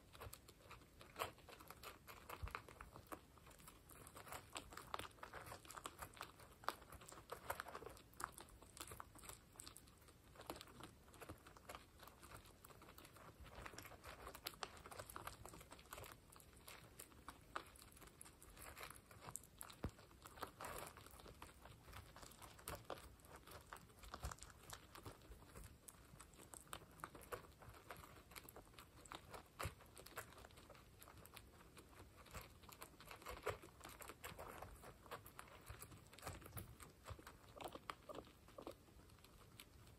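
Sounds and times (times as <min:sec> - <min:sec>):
guinea pigs crunching pellets: 0:00.0 - 0:39.9.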